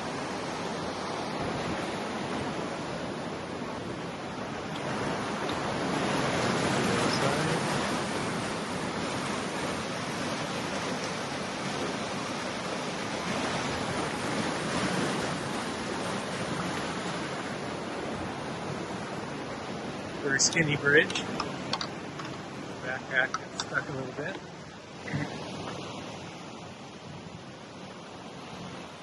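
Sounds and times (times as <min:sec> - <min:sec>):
creek water rushing: 0:00.0 - 0:29.0.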